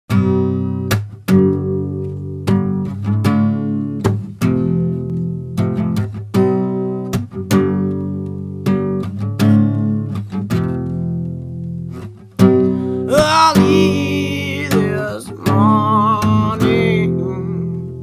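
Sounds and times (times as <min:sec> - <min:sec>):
acoustic guitar strumming chords: 0:00.1 - 0:18.0.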